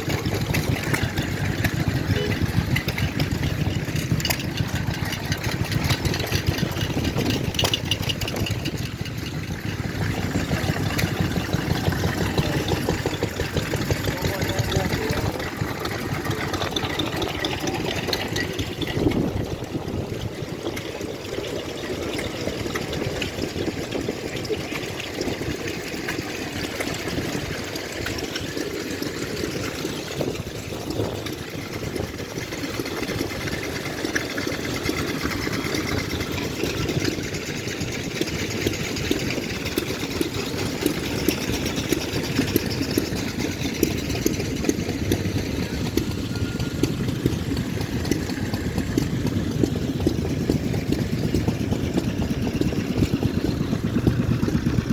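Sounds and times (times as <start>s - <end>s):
engines chugging: 0.0s - 54.9s.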